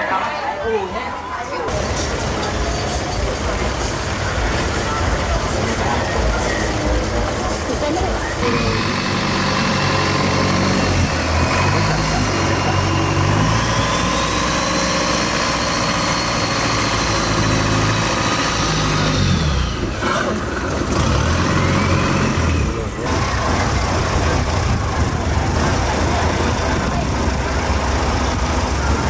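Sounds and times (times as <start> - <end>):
boat engine running: 1.7 - 29.0.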